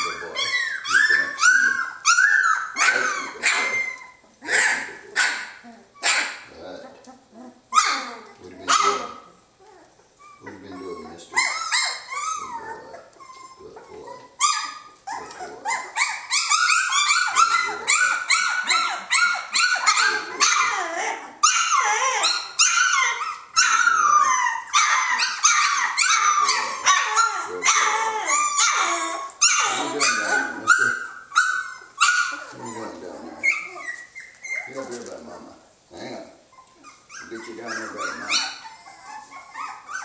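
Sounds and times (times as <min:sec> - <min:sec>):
puppies whining and yelping: 0:00.0 - 0:40.0.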